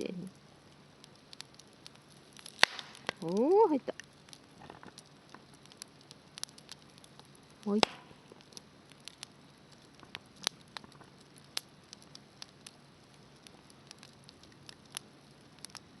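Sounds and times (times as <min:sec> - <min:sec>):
faint low hiss: 0:00.0 - 0:16.0
wood fire popping and snapping: 0:00.0 - 0:16.0.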